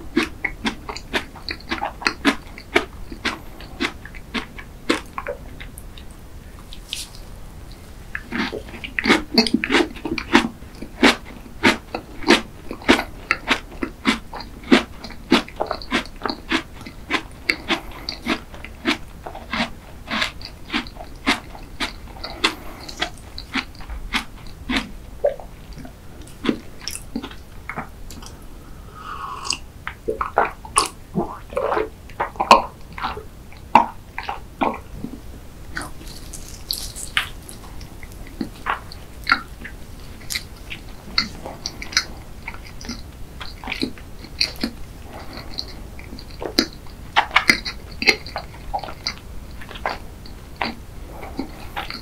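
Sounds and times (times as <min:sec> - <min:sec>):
person chewing with wet smacks: 0:00.0 - 0:52.0.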